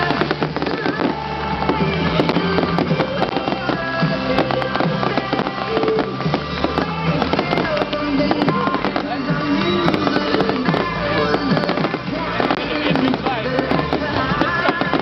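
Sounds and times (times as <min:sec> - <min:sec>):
fireworks banging and crackling: 0:00.0 - 0:15.0
music playing: 0:00.0 - 0:15.0.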